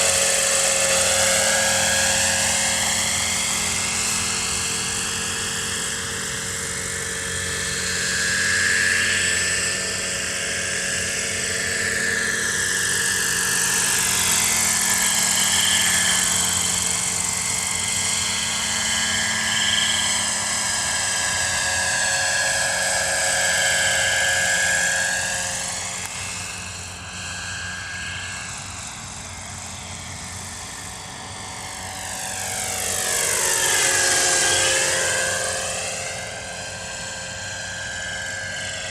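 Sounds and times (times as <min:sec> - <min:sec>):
model helicopter engine and rotor: 0:00.0 - 0:38.9.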